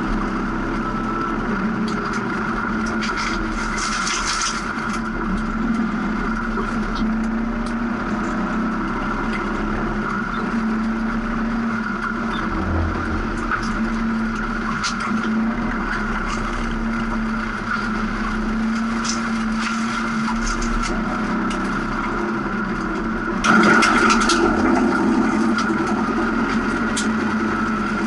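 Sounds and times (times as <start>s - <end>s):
car engine running steadily: 0.0s - 28.0s.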